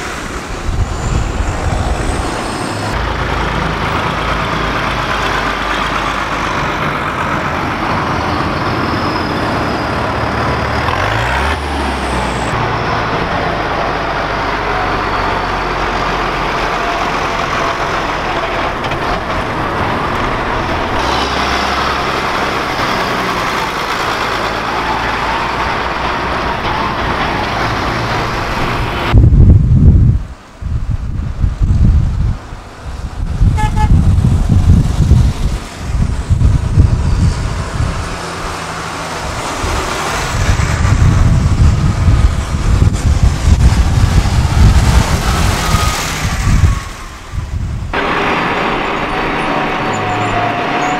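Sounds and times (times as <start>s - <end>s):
tractor diesel engines driving past: 0.0s - 29.2s, 32.1s - 50.9s.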